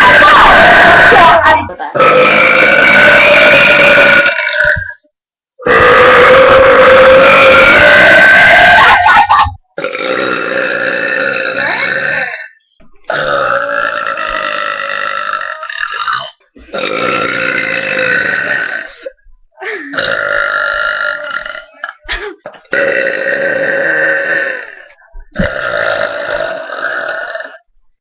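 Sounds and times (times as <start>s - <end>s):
woman belching: 0.0s - 5.0s, 5.6s - 9.2s, 9.8s - 12.5s, 13.1s - 27.7s.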